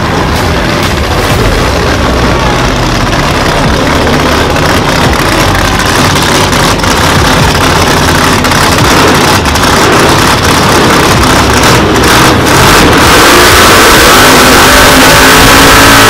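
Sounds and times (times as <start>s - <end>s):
race car engine idling: 0.0s - 16.0s.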